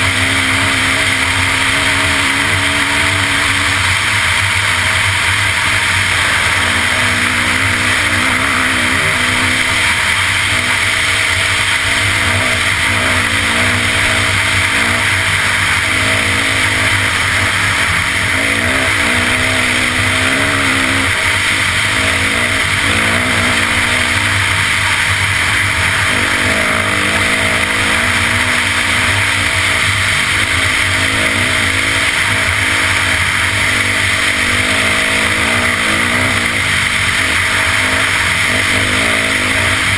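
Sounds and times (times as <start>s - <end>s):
dirt bike engine: 0.0s - 39.9s
steady rushing noise: 0.0s - 39.9s.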